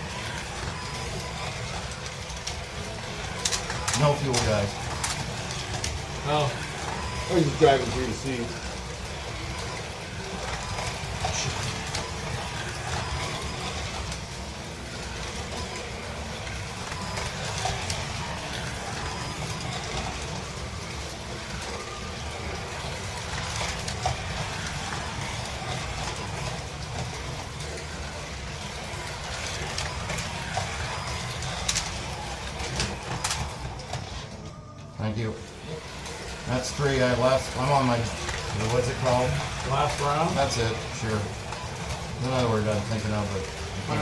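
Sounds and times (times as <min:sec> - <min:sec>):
small electric motors whirring: 0:00.0 - 0:34.4, 0:35.5 - 0:44.0
slot cars rattling on track: 0:00.0 - 0:44.0.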